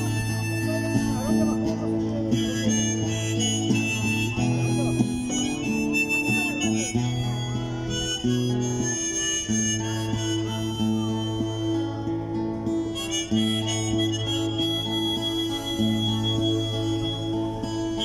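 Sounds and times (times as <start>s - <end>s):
acoustic guitar: 0.0s - 18.0s
harmonica: 0.0s - 18.0s.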